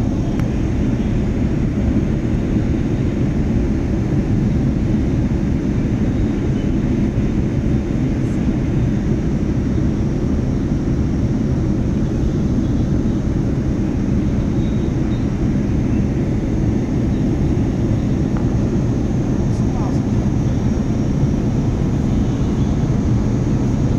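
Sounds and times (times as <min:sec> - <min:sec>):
airliner cabin engine rumble: 0:00.0 - 0:23.9.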